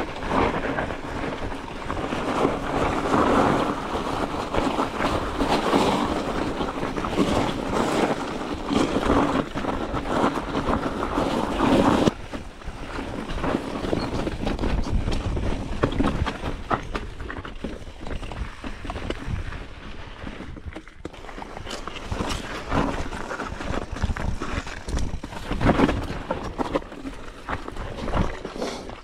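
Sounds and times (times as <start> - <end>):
wind buffeting microphone: 0.0 - 28.5
bike knocking and rattling over rocks: 0.0 - 29.0.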